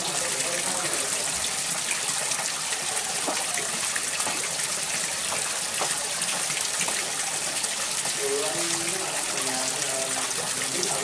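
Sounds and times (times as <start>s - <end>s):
rush of running water: 0.0s - 11.0s
small splashes and drips: 0.0s - 11.0s.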